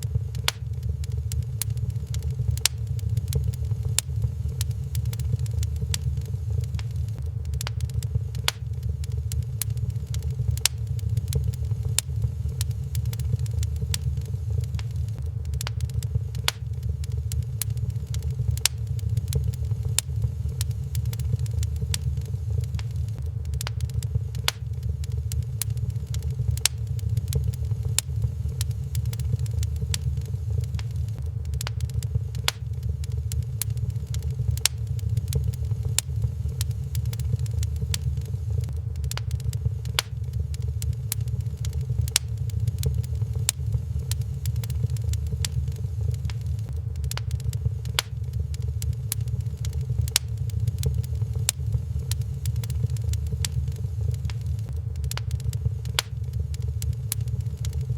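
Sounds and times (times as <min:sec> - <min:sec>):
sharp pops of fire: 0:00.0 - 0:57.9
wood fire crackling: 0:00.0 - 0:57.9.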